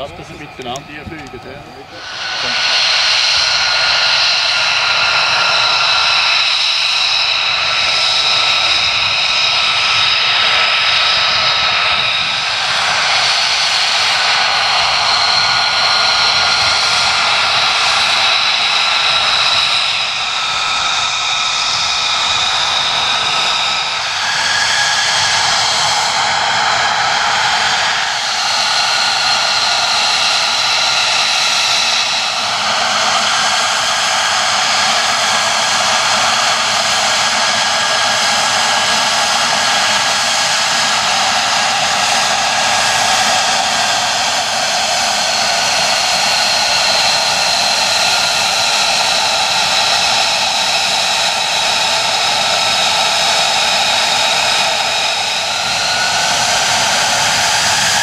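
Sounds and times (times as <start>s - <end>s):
high jet whining tones: 0.0s - 58.0s
jet engine rush: 0.0s - 58.0s.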